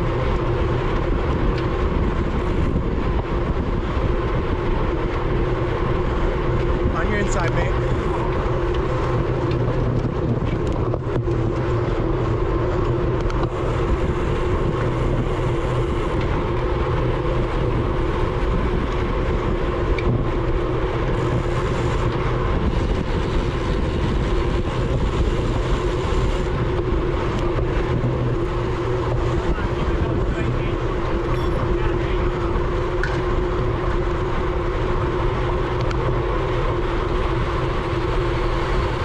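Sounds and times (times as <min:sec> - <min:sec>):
bike tyre noise: 0:00.0 - 0:39.0
wind rushing: 0:00.0 - 0:39.0.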